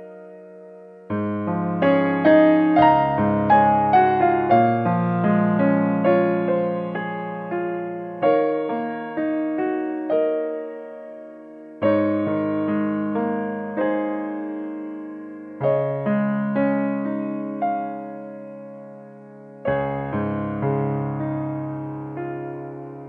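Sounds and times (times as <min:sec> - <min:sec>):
slow gentle piano: 0:00.0 - 0:23.0.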